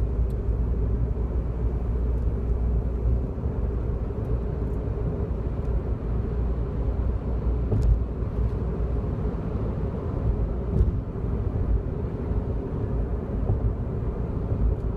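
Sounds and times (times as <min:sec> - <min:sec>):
road and engine rumble: 0:00.0 - 0:14.9.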